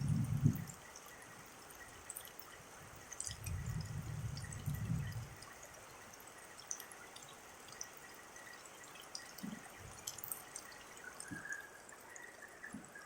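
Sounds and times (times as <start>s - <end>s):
rain water dripping: 0.0s - 13.0s.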